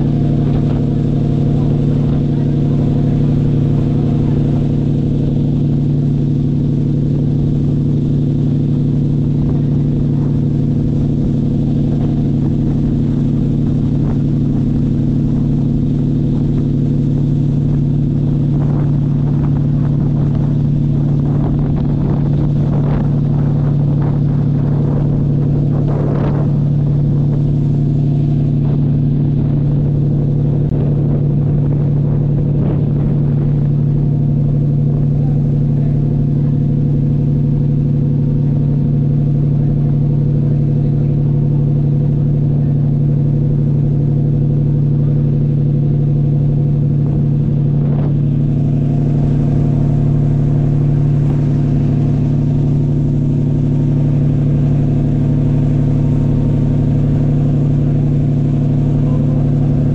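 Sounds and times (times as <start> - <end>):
faint water rush: 0.0 - 59.9
ferry engines droning: 0.0 - 59.9.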